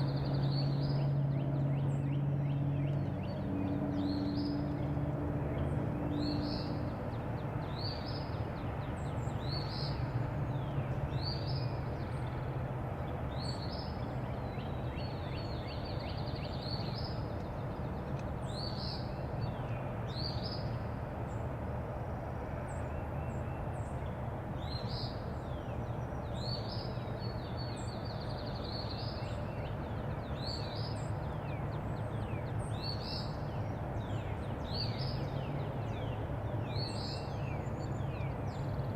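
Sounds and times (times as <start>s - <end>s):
songbird singing: 0.0s - 21.6s, 22.4s - 38.9s.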